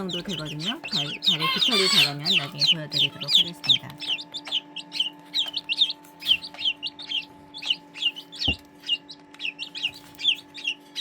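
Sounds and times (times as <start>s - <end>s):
chicks peeping: 0.0s - 11.0s
steady low hum: 0.0s - 11.0s.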